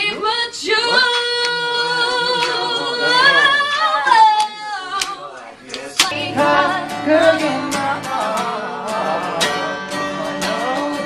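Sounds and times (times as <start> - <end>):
person singing slow love song: 0.0 - 5.2, 5.9 - 11.0.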